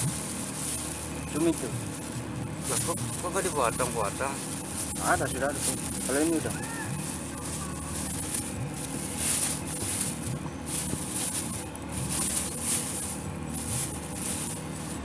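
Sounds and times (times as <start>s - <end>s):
plastic bags rustling: 0.0s - 15.0s
steady low hum: 0.0s - 15.0s.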